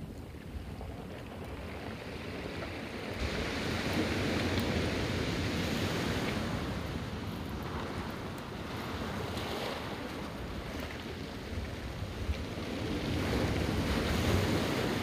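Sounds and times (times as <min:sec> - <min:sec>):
sea surf on rocky shore: 0:00.5 - 0:15.0.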